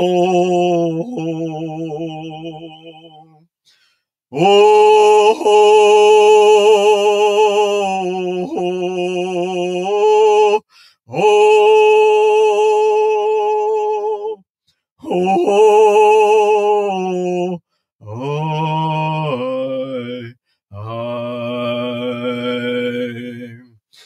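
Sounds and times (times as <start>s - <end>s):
person singing unaccompanied: 0.0s - 3.4s, 4.3s - 14.4s, 15.0s - 23.6s.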